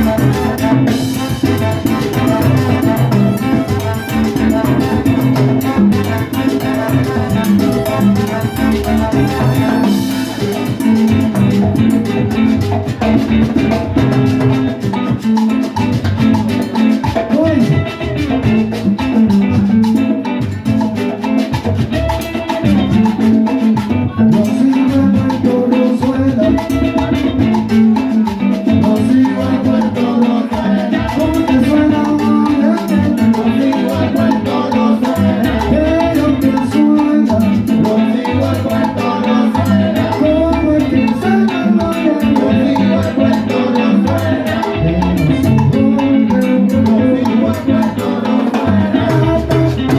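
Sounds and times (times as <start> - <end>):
salsa band playing: 0.0 - 49.9.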